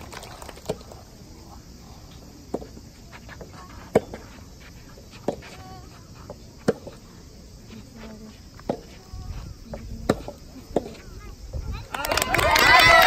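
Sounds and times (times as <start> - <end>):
insects hissing: 0.0 - 13.0.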